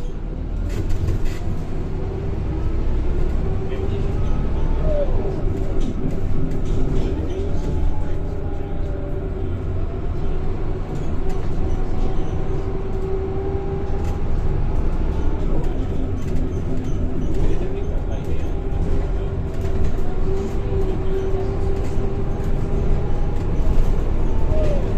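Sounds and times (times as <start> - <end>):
bus body rattling: 0.0 - 24.9
bus engine and road rumble: 0.0 - 24.9.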